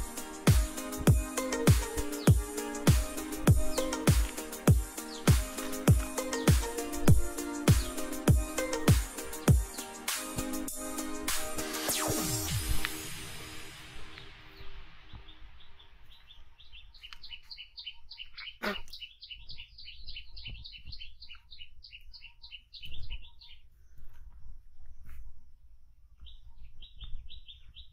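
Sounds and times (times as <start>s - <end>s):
small bird chirping: 0.0s - 10.6s, 14.1s - 27.9s.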